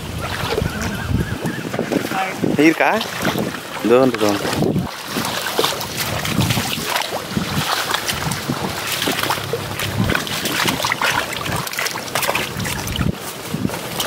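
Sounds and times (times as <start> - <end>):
water splashing and sloshing: 0.0 - 14.0
wind buffeting microphone: 0.0 - 14.0.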